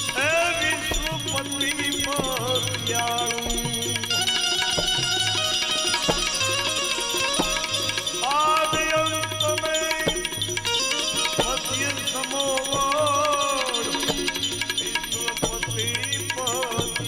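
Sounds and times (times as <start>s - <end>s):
tabla rhythm: 0.0s - 17.0s
wavering devotional melody: 0.0s - 17.0s.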